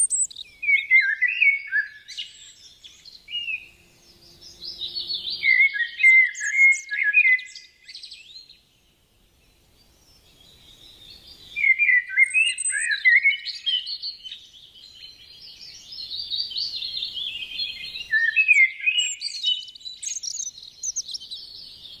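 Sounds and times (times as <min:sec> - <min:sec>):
songbird warbling: 0:00.0 - 0:08.6, 0:10.1 - 0:22.0.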